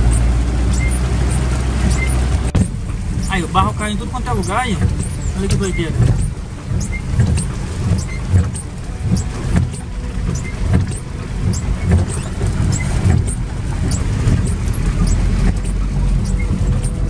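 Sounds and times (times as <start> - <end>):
low thumps: 0.0 - 17.0
rain ticking on windshield: 0.0 - 17.0
van engine and road rumble: 0.0 - 17.0.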